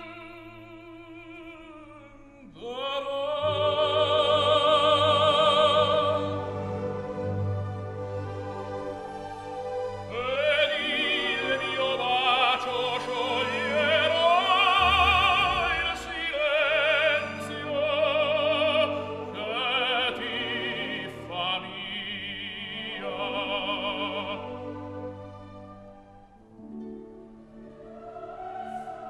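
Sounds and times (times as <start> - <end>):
operatic singing with orchestra: 0.0 - 29.0.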